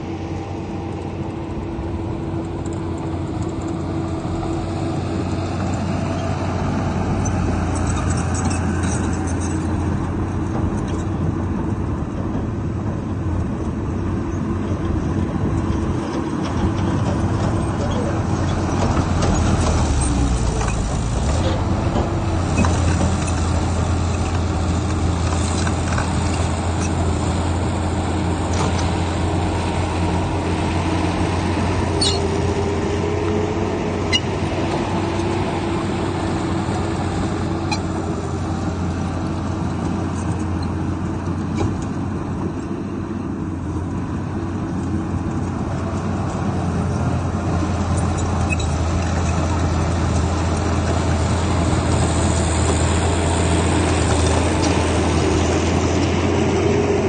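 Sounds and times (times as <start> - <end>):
diesel machinery engine drone: 0.0 - 57.0.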